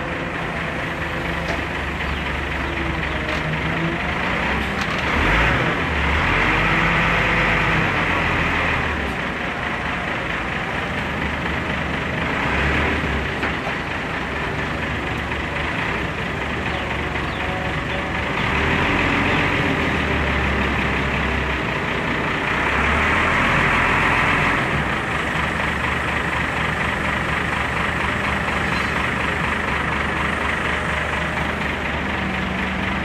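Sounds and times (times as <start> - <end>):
forklift engine running: 0.0 - 33.0.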